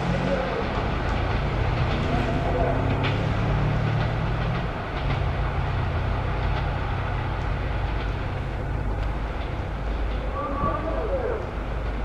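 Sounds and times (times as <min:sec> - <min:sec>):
electric train rumbling slowly: 0:00.0 - 0:12.0
wheels clicking over rail joints: 0:00.0 - 0:12.0.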